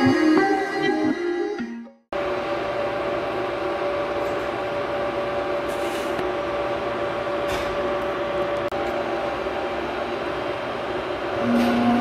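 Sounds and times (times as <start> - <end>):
electric locomotive hum: 0.0 - 12.0.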